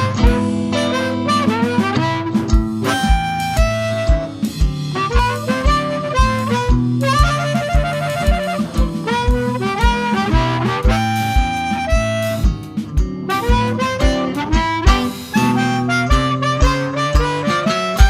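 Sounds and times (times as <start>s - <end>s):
blues band playing: 0.0s - 18.0s
harmonica melody: 0.0s - 18.0s.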